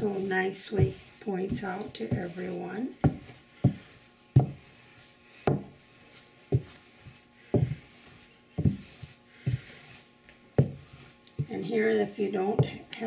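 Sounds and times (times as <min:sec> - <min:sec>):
rolling pin thumping on dough: 0:00.0 - 0:04.7, 0:05.4 - 0:05.8, 0:06.4 - 0:10.0, 0:10.6 - 0:12.9
soft rubbing of cloth: 0:00.0 - 0:12.9.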